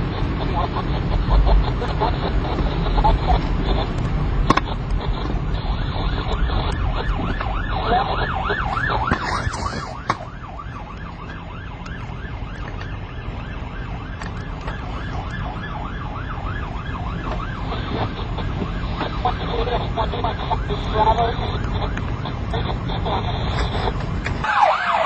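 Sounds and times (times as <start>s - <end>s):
police siren yelping: 0.0s - 25.0s
road and engine rumble: 0.0s - 25.0s.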